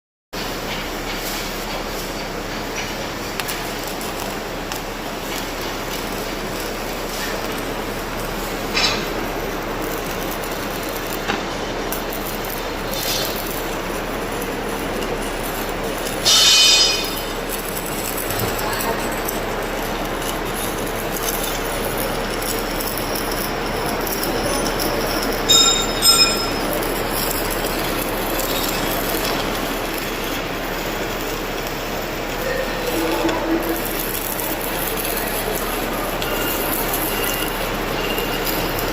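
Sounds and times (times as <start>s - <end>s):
welding arc crackling: 0.4s - 38.9s.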